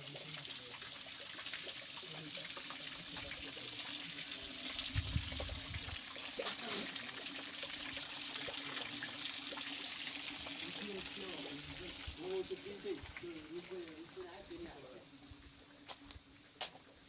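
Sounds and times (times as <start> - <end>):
water splashing into stone basin: 0.0 - 17.0.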